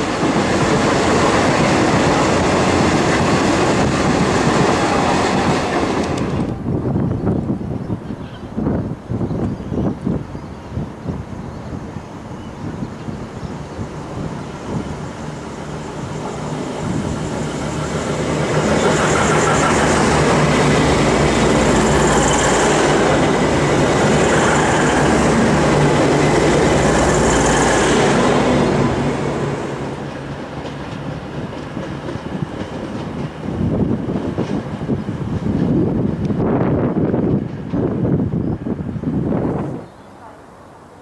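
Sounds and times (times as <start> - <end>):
train wheels on rails: 0.0 - 6.9, 12.2 - 39.8
diesel train engine drone: 0.0 - 7.1, 10.7 - 41.0.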